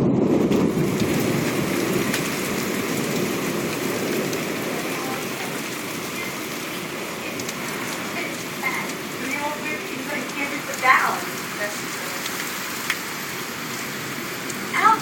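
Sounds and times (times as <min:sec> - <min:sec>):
thunder rumble: 0:00.0 - 0:15.0
hailstones ticking: 0:00.4 - 0:15.0
heavy rain hissing: 0:00.4 - 0:15.0.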